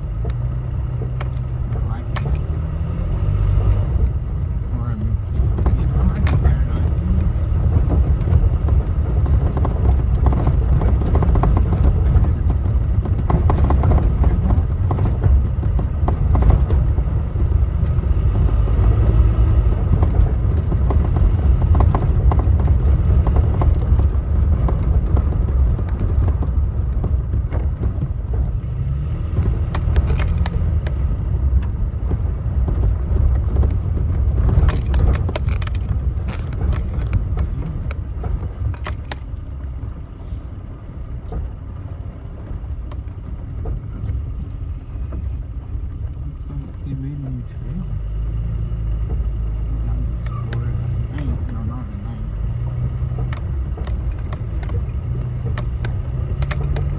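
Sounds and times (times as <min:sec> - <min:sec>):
knocks and clunks: 0:00.0 - 0:56.9
road and engine rumble: 0:00.0 - 0:56.9.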